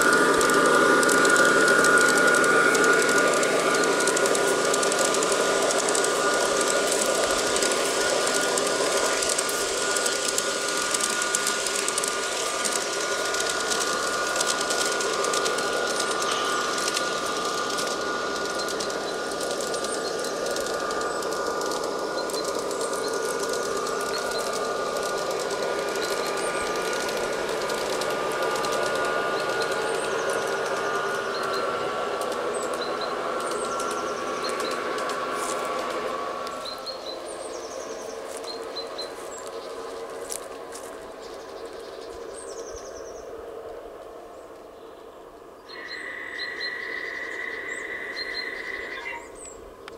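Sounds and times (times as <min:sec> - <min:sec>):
wheels clicking on track: 0:00.0 - 0:45.0, 0:45.6 - 0:49.9
model train motor whine: 0:00.0 - 0:49.9.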